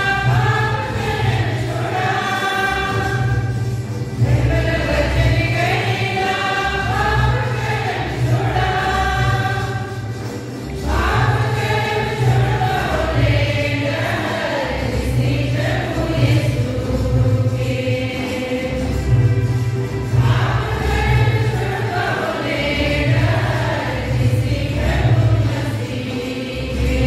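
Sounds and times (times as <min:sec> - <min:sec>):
choir singing a hymn: 0:00.0 - 0:27.0
low pulsing accompaniment: 0:00.0 - 0:27.0.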